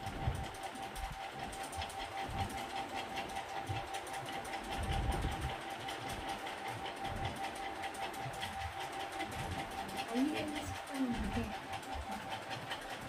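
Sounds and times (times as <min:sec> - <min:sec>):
fast regular ticking: 0:00.0 - 0:13.0.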